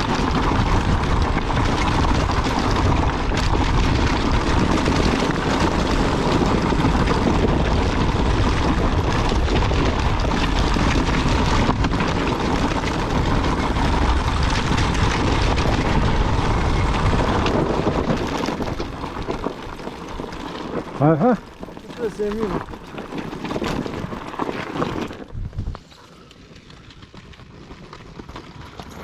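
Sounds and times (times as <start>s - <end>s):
motocross bike engine: 0.0s - 27.3s.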